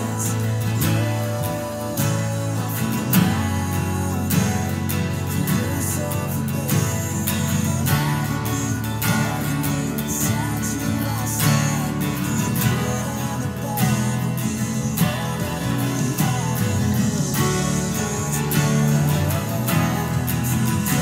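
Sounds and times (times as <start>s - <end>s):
acoustic guitars strumming chords: 0.0s - 21.0s.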